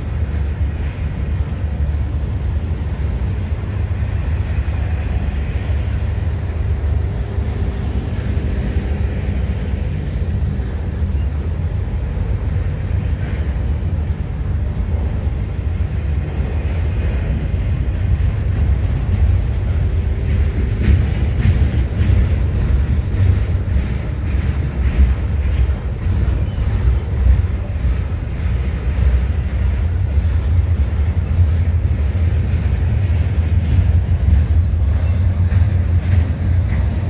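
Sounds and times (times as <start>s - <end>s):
train rumbling past: 0.0s - 37.0s.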